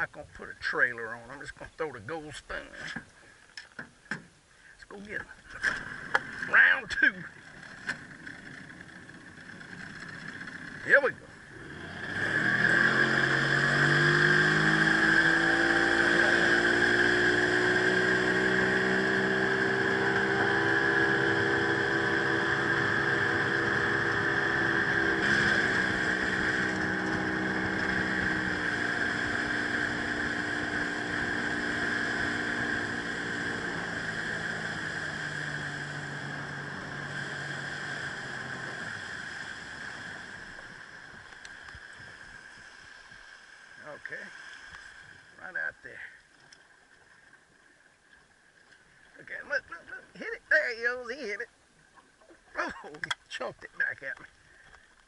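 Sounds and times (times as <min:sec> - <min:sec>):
outboard motor running: 0:04.9 - 0:55.0.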